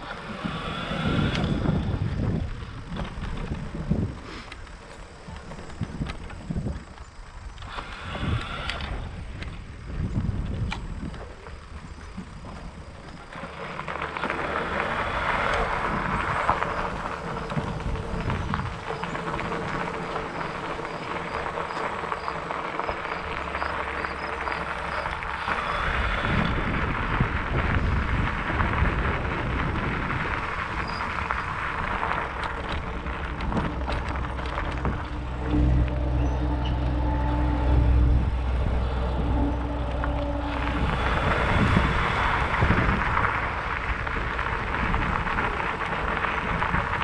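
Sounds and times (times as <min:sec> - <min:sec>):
bike tyres rolling over gravel: 0:00.0 - 0:47.0.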